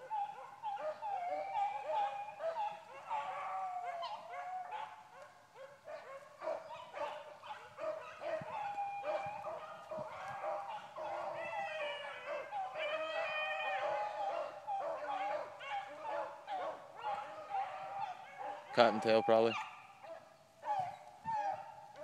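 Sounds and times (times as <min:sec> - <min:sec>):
dogs baying and yelping: 0:00.0 - 0:22.0.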